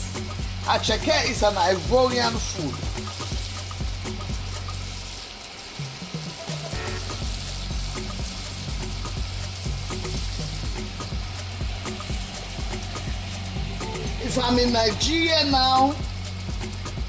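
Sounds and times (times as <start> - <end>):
oil sizzling in a pot: 0.0 - 17.0.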